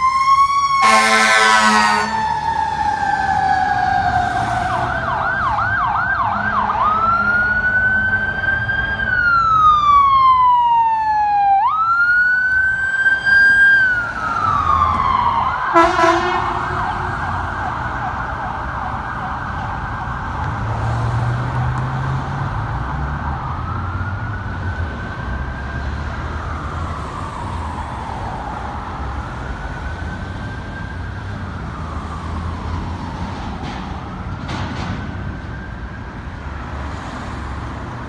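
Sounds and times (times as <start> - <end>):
emergency siren yelp and wail: 0.0 - 38.0.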